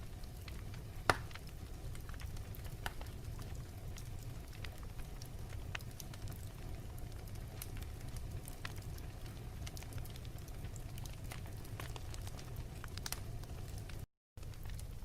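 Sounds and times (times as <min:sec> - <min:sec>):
fire crackles and pops: 0:00.0 - 0:15.0
fire rumbling: 0:00.0 - 0:15.0.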